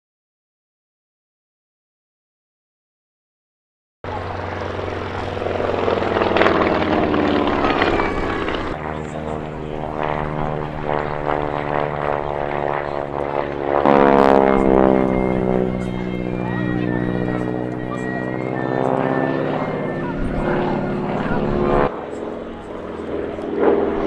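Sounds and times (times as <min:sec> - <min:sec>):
biplane piston engine in flight: 0:04.0 - 0:24.0
bomber engines droning past: 0:04.1 - 0:24.0.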